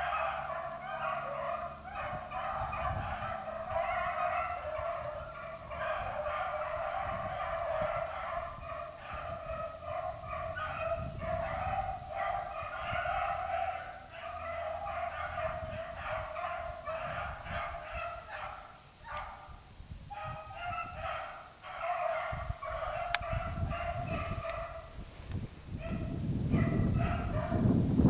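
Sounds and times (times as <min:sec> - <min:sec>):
hounds baying: 0:00.0 - 0:25.0, 0:25.8 - 0:27.6.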